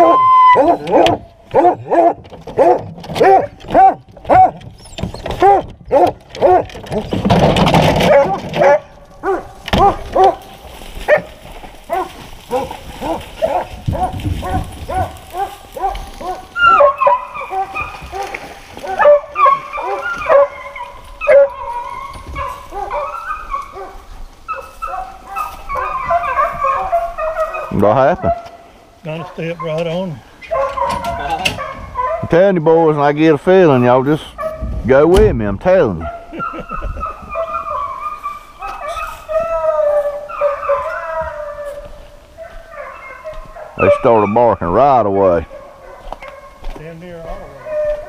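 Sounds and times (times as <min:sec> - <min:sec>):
hounds barking and whining: 0:00.0 - 0:34.9, 0:35.7 - 0:48.0.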